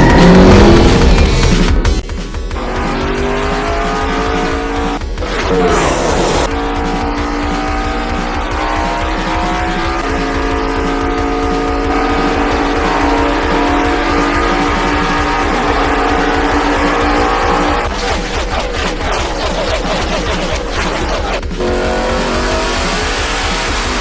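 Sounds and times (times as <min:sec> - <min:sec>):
race car engines at high revs: 0:00.0 - 0:24.0.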